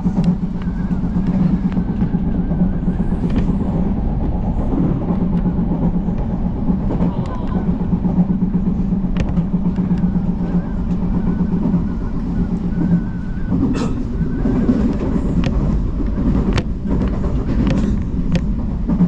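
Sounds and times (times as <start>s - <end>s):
electric train rumble and hum: 0.0s - 19.0s
wheel clacks over rail joints: 3.2s - 19.0s.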